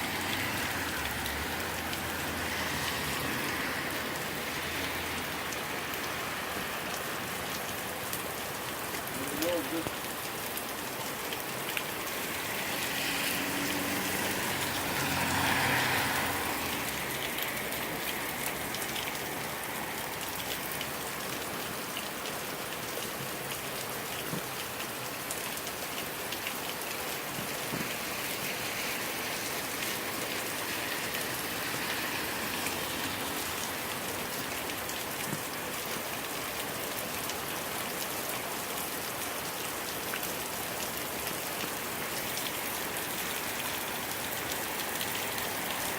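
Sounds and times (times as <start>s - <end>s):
heavy rain on hard surfaces: 0.0s - 45.9s.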